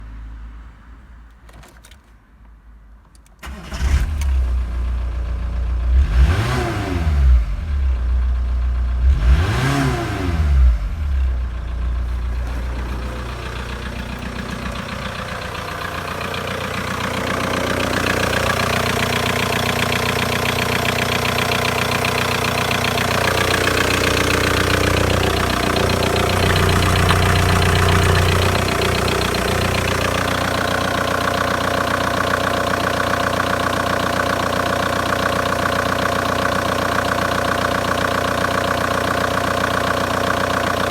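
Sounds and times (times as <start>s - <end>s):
diesel engine starting and revving: 3.4s - 40.9s.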